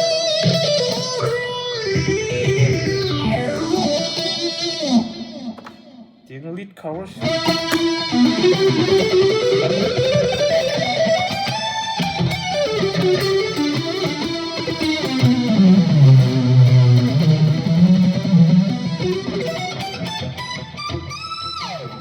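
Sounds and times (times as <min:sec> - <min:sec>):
electric guitar lead melody: 0:00.0 - 0:06.2, 0:07.2 - 0:22.0.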